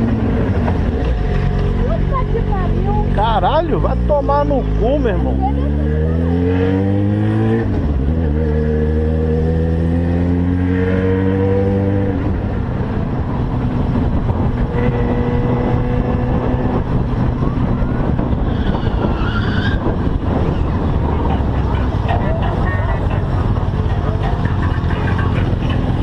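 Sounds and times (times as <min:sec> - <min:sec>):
motorcycle engine accelerating: 0:00.0 - 0:26.0
road and wind noise: 0:00.0 - 0:26.0.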